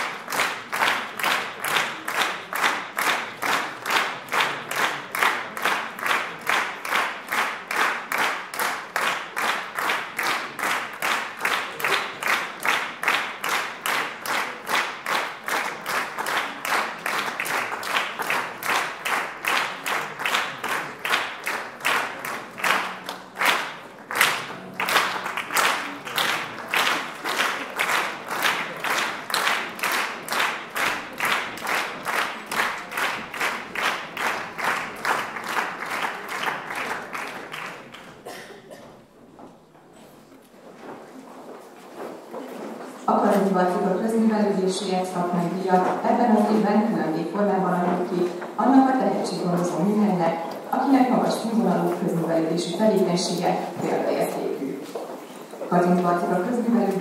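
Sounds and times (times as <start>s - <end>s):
audience clapping in unison: 0.0s - 39.5s, 44.1s - 57.0s.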